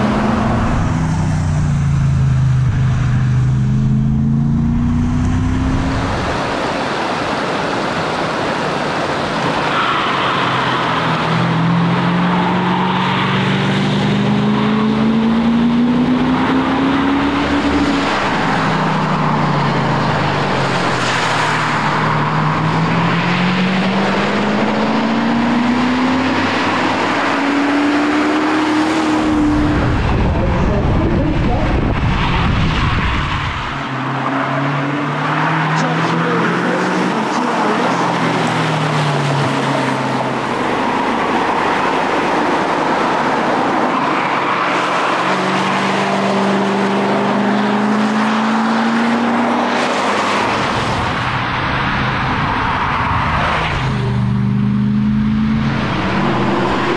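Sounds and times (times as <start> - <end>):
car engine revving: 0.0 - 56.9
tyre and road noise: 0.0 - 56.9.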